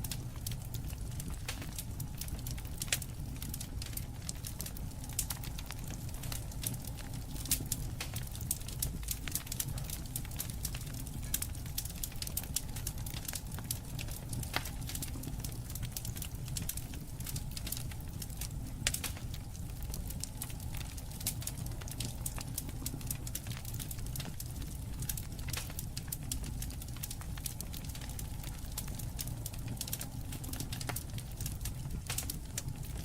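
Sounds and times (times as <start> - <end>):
campfire crackling and popping: 0.0 - 33.0
low rumble of burning: 0.0 - 33.0.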